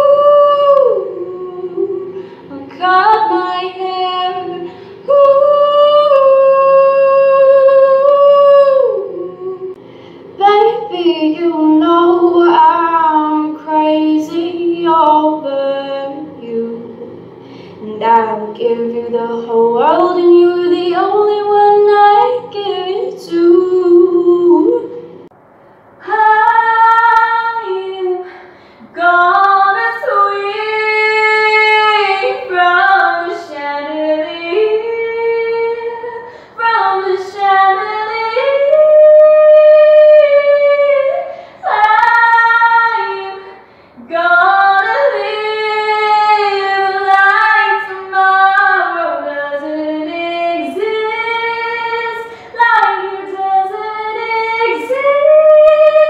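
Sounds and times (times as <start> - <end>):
woman singing unaccompanied: 0.0 - 17.1, 17.8 - 25.1, 26.0 - 56.0.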